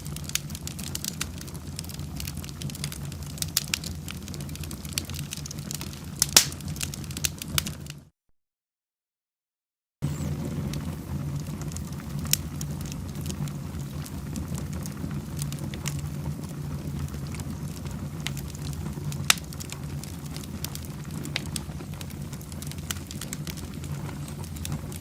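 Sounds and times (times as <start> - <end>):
low rumble of fire: 0.0 - 8.1, 10.0 - 25.0
wood fire crackling: 0.0 - 8.1, 10.0 - 25.0.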